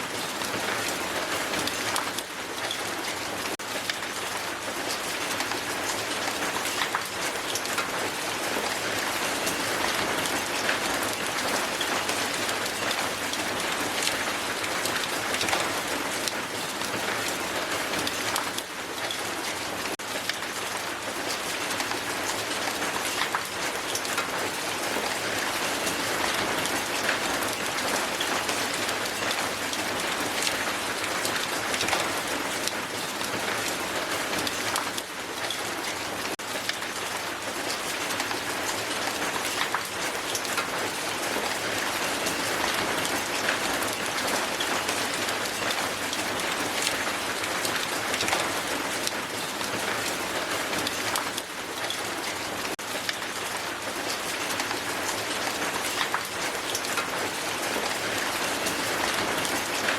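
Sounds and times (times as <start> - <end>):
hail falling on ground: 0.1 - 59.9.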